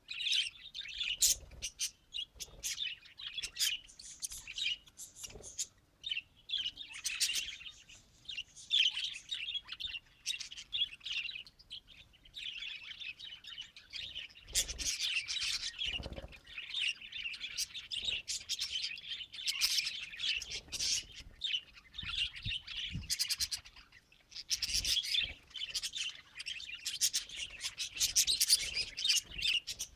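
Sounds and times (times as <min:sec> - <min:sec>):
budgerigars chirping and warbling: 0:00.1 - 0:29.9.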